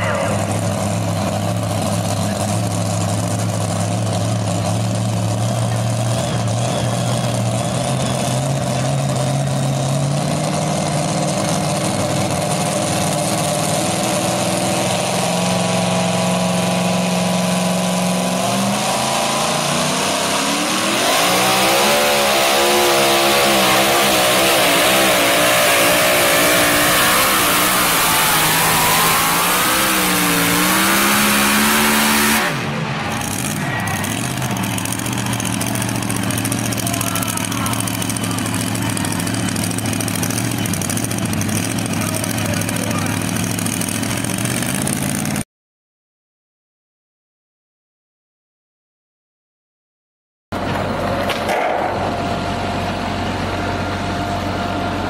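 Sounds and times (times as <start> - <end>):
tractor engine revving: 0.0 - 45.4, 50.5 - 55.0.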